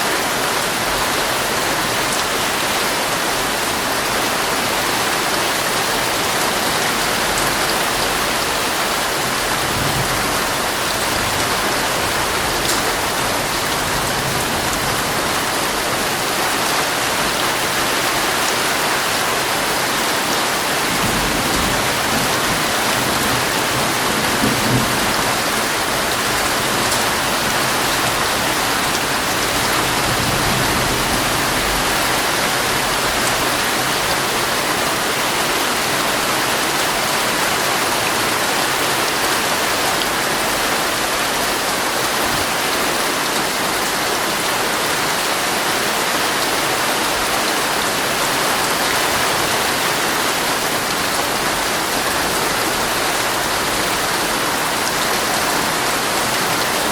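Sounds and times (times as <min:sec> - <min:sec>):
heavy rain drumming on tent: 0:00.0 - 0:56.9.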